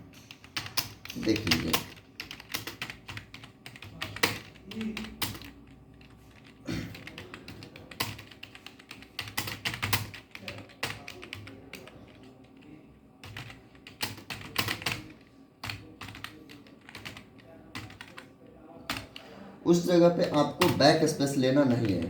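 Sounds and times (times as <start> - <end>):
typing on computer keyboard: 0.1 - 19.3, 20.2 - 21.0, 21.6 - 22.0.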